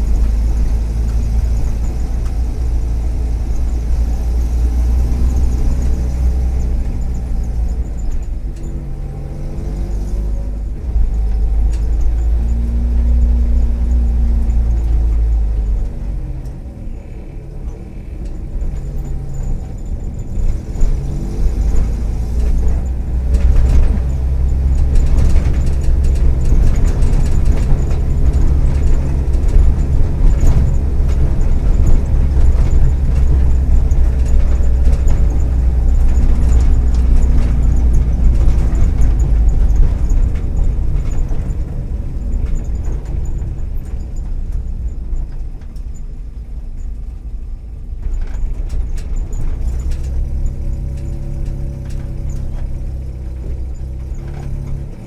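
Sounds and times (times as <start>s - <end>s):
small clicks and rattles: 0.0s - 55.0s
van engine running: 0.0s - 55.0s.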